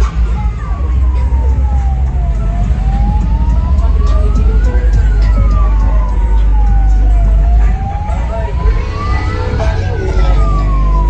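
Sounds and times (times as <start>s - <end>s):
heavy low rumble: 0.0s - 11.0s
siren wailing: 0.0s - 11.0s.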